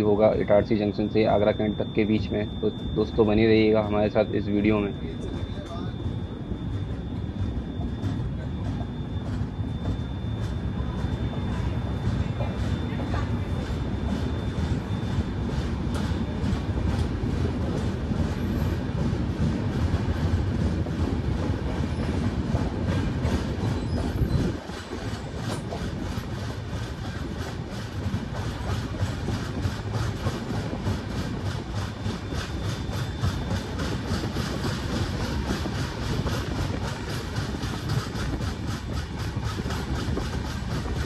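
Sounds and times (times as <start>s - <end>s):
passenger train rumbling on rails: 0.0s - 41.0s
wheels clickety-clack over rail joints: 0.0s - 41.0s.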